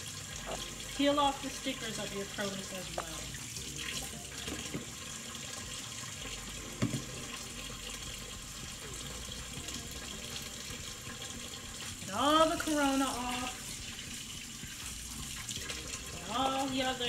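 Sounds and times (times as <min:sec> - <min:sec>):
faucet running into sink: 0:00.0 - 0:17.0.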